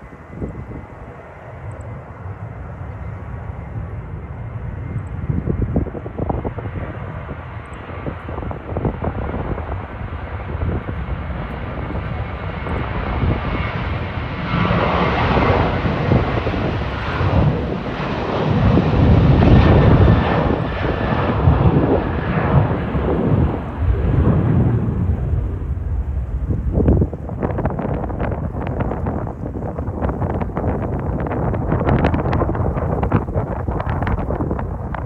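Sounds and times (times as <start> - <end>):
jet engines at high power: 0.0 - 35.0
wind buffeting microphone: 0.0 - 35.0.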